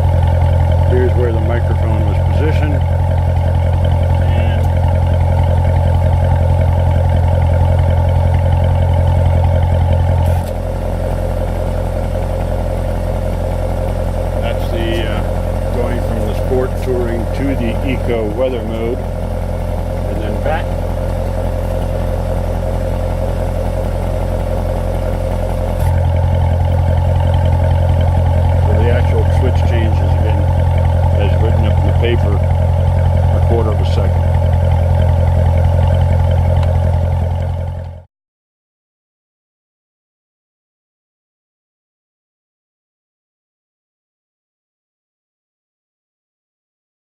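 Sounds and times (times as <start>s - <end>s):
car engine idling loudly: 0.0s - 38.1s.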